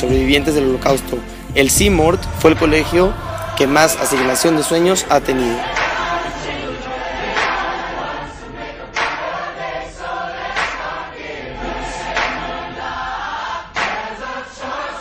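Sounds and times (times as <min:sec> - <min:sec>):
choir singing with music: 0:00.0 - 0:15.0.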